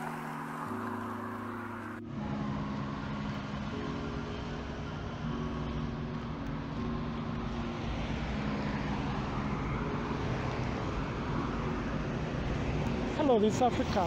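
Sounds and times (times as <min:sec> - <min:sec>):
cars driving past on highway: 0:00.0 - 0:14.0.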